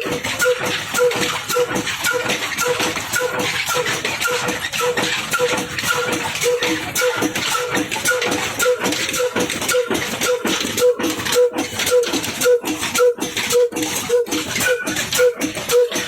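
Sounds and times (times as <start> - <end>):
single-cylinder diesel engine running: 0.0 - 16.0.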